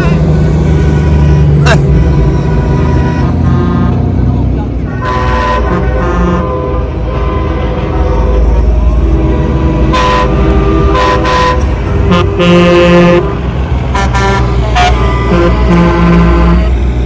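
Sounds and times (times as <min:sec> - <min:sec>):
truck air horn blasts: 0:00.0 - 0:08.4, 0:09.1 - 0:16.9
diesel engines rumbling: 0:00.0 - 0:17.0.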